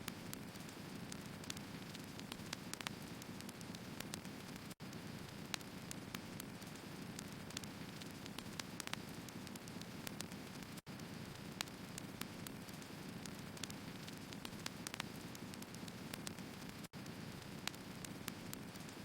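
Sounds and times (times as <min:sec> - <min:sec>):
logs crackling and popping: 0:00.1 - 0:19.0.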